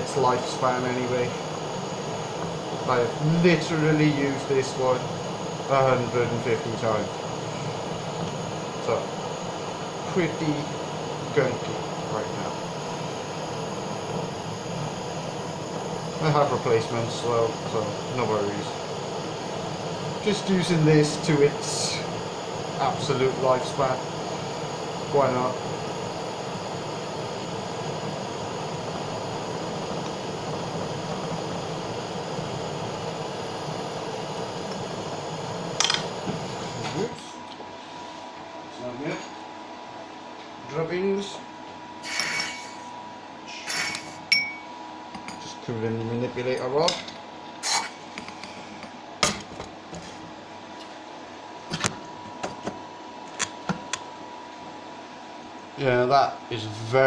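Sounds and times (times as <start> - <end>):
blowtorch flame hissing: 0.0 - 40.0, 40.7 - 57.0.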